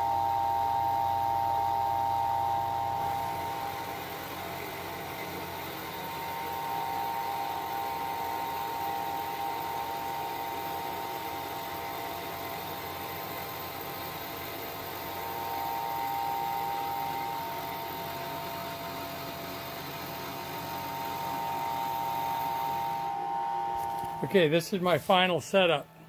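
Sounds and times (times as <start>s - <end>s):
milling machine whine: 0.0s - 26.0s.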